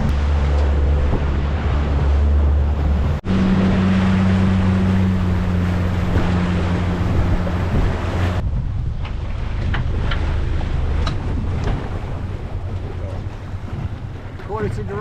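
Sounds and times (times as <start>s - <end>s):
small boat motor humming: 0.0s - 15.0s
water noise: 0.0s - 15.0s
wind buffeting microphone: 0.0s - 15.0s.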